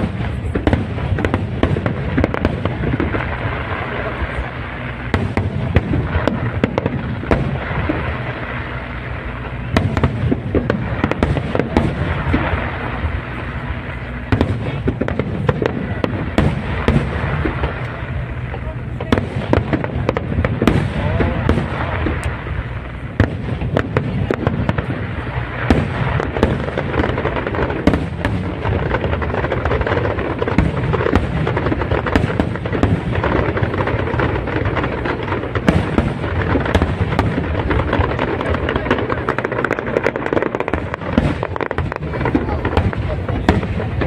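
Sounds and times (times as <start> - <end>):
continuous low rumble: 0.0 - 44.0
fireworks bangs and crackles: 0.0 - 44.0.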